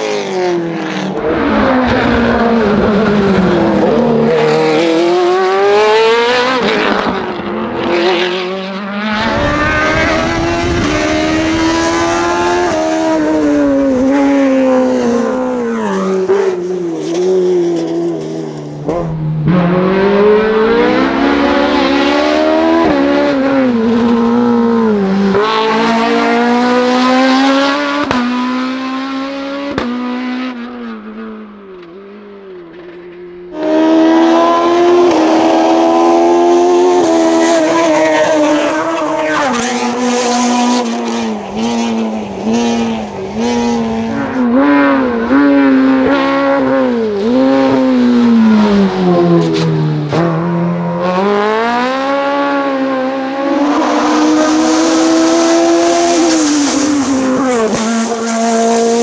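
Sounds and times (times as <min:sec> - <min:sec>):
race car engines at full throttle: 0:00.0 - 0:59.0.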